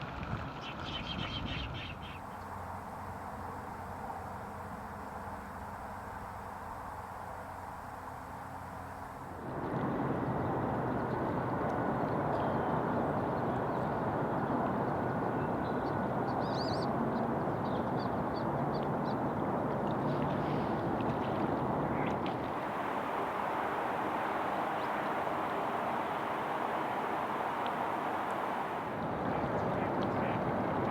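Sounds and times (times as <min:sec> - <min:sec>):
outdoor background noise: 0:00.0 - 0:30.9.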